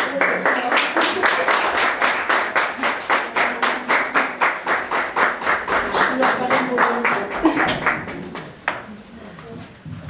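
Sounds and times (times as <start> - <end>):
audience clapping in rhythm: 0.0 - 8.8.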